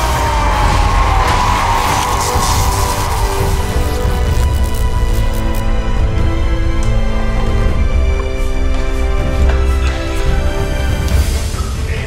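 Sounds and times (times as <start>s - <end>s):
dramatic film score: 0.0s - 12.0s.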